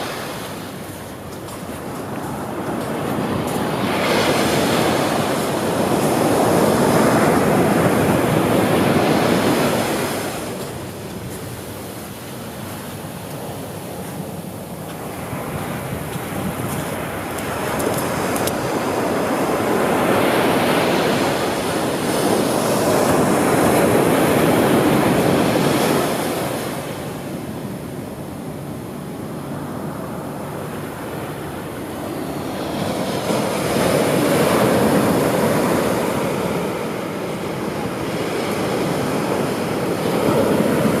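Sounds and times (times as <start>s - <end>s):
ocean surf breaking on beach: 0.0s - 41.0s.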